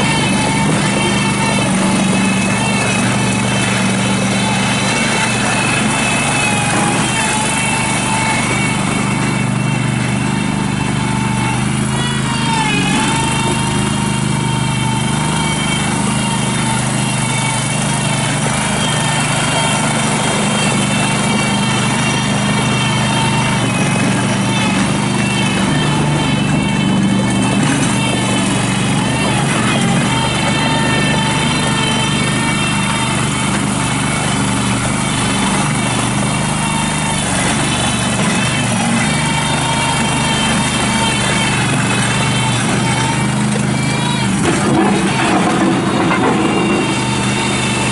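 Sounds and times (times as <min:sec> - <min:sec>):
gas engine running steadily: 0:00.0 - 0:47.9.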